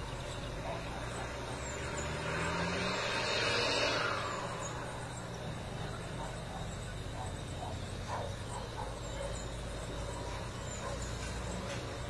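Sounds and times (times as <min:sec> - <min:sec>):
steady low hum: 0:00.0 - 0:12.0
vehicle passing: 0:00.0 - 0:12.0.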